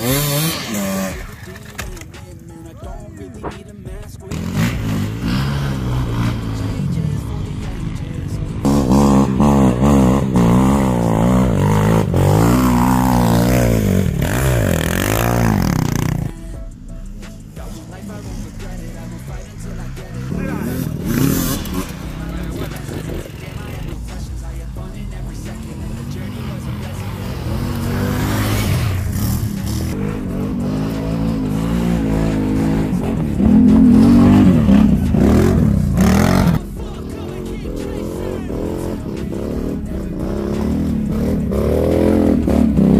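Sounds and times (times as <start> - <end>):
quad engines revving hard: 0.0 - 2.1, 4.2 - 16.5, 17.2 - 42.9
music: 0.0 - 42.9.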